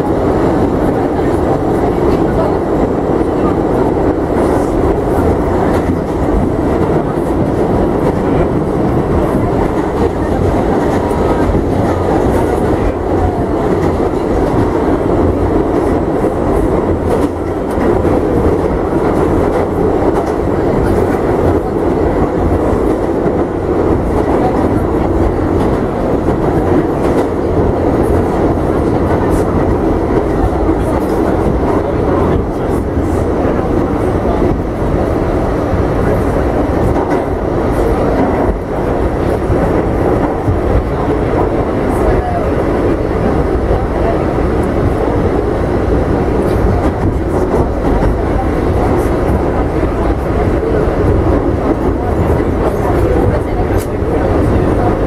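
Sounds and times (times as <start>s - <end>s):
subway wheels rumbling on rails: 0.0s - 55.0s.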